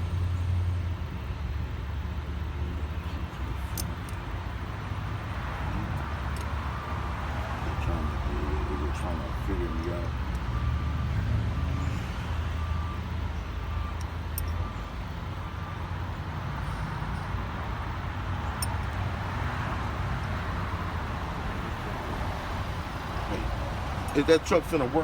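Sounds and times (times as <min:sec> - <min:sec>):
traffic noise: 0:00.0 - 0:25.0
truck engine rumbling: 0:00.0 - 0:25.0.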